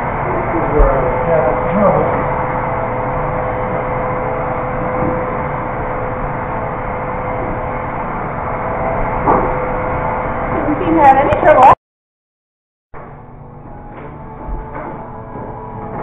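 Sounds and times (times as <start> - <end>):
constant hum: 0.0 - 11.8, 13.0 - 16.0.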